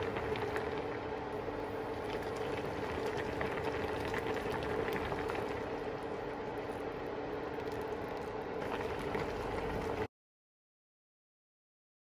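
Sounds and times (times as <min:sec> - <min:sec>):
broth bubbling at a boil: 0:00.0 - 0:10.1
low steady hum: 0:00.0 - 0:10.1.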